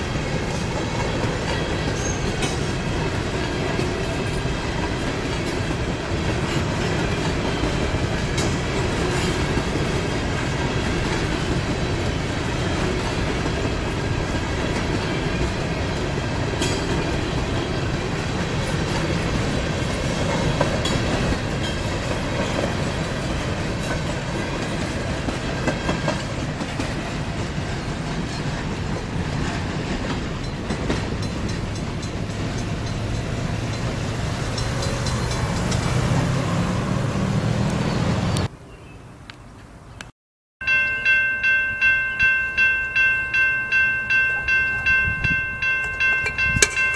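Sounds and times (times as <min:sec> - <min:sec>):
clickety-clack over rail joints: 0:00.0 - 0:38.5
freight train wheels rumbling: 0:00.0 - 0:38.5, 0:40.6 - 0:46.9.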